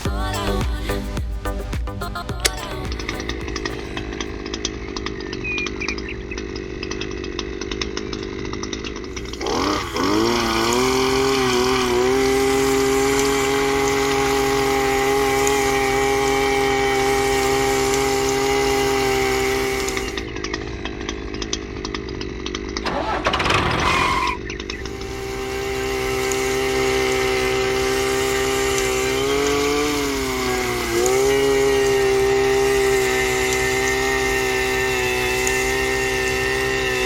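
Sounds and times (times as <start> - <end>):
small electric motor whining: 2.4 - 37.0.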